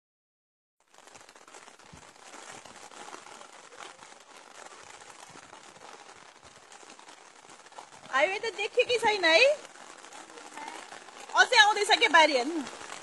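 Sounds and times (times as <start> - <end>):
floodwater rushing: 0.9 - 13.0.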